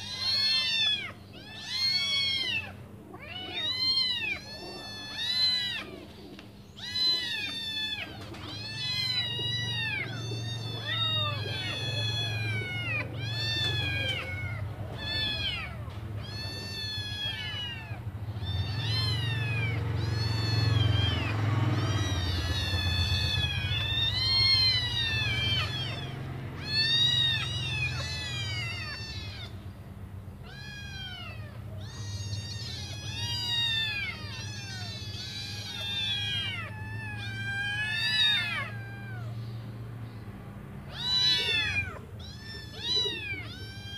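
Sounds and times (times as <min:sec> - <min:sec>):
kittens meowing: 0:00.0 - 0:43.9.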